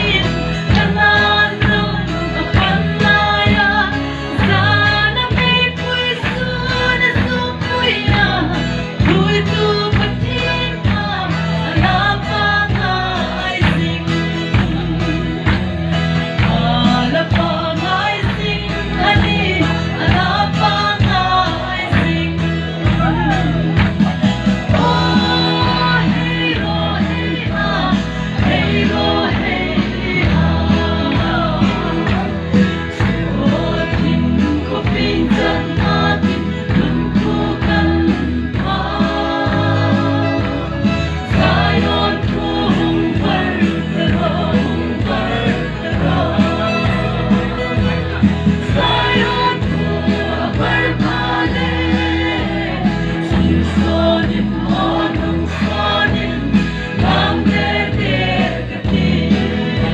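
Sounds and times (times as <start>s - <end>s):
group singing gospel song: 0.0s - 59.9s
music with steady beat: 0.0s - 59.9s.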